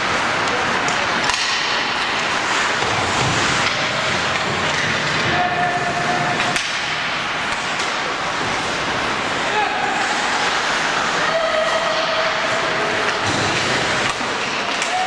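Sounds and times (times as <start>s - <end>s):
reverberant ice rink din: 0.0s - 15.0s.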